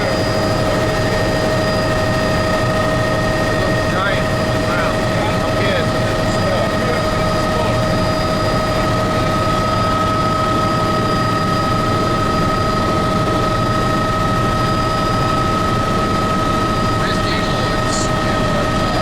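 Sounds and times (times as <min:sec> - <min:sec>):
helicopter rotor and engine: 0:00.0 - 0:19.0
high turbine whine: 0:00.0 - 0:19.0.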